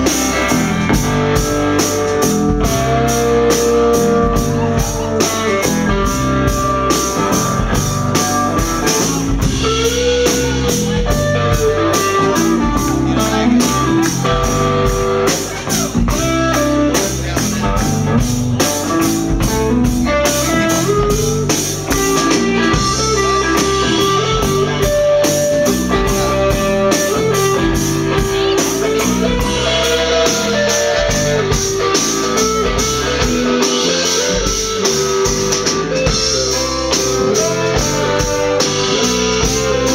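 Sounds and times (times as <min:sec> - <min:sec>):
drum kit beat: 0:00.0 - 0:39.9
electric guitar: 0:00.0 - 0:39.9
soul band playing: 0:00.0 - 0:39.9.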